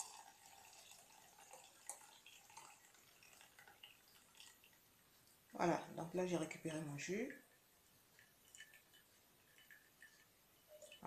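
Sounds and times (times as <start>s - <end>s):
liquid trickling through strainer: 0.0s - 11.0s.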